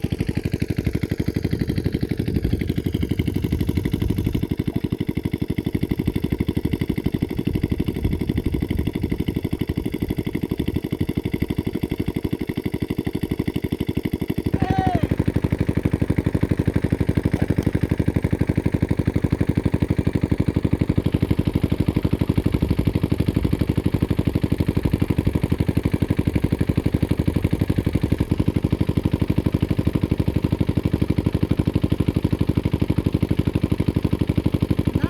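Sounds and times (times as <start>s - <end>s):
small engine running: 0.0s - 35.0s.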